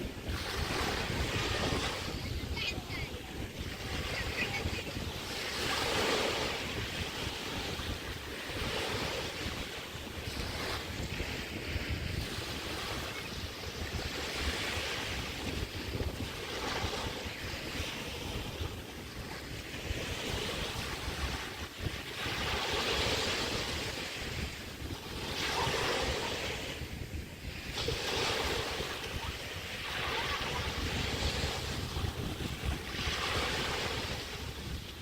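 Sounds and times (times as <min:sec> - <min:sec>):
waves breaking on beach: 0:00.0 - 0:35.0
wind buffeting microphone: 0:00.0 - 0:35.0.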